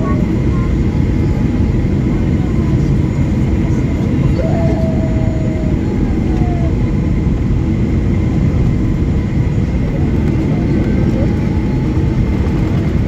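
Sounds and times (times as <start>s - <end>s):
aircraft cabin engine rumble: 0.0s - 13.0s
thin steady whine: 0.0s - 13.0s.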